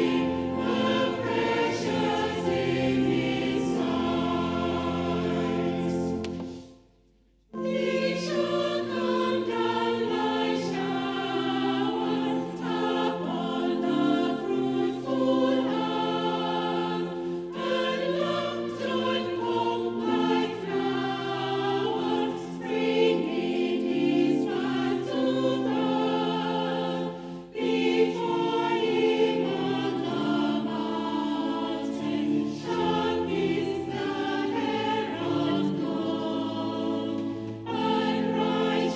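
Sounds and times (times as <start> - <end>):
choir singing a hymn: 0.0 - 6.7, 7.6 - 38.9.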